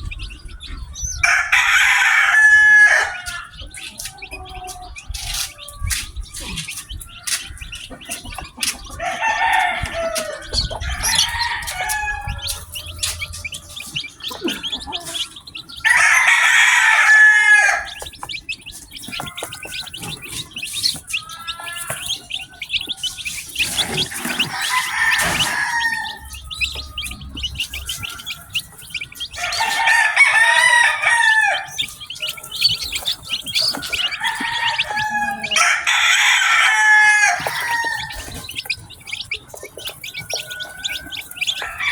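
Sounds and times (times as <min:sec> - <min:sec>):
chickens calling: 0:00.0 - 0:41.9
chicks peeping: 0:00.0 - 0:41.9.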